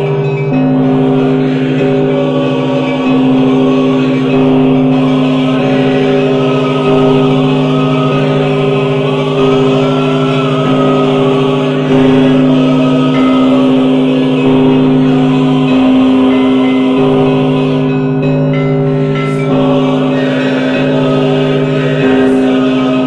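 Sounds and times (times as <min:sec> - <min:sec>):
choir singing a slow chant: 0:00.0 - 0:23.0
steady low drone: 0:00.0 - 0:23.0.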